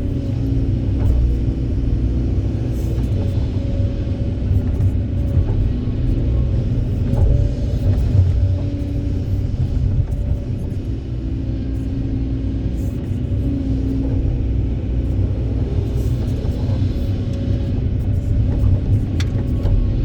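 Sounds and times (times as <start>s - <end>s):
excavator diesel engine rumbling: 0.0s - 20.0s.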